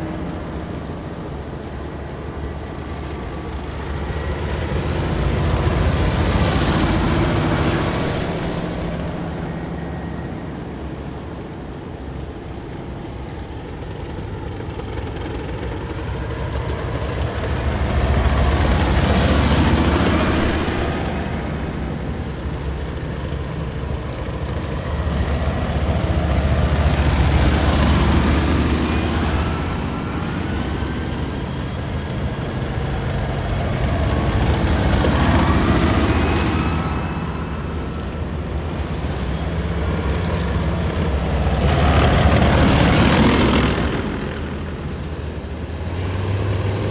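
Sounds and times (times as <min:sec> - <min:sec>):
heavy vehicles driving past: 0:00.0 - 0:12.8, 0:15.0 - 0:46.9.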